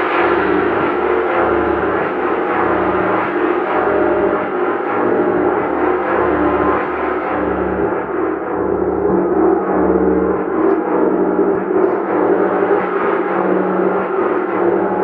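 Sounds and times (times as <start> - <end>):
low pulsing throb: 0.0 - 15.0.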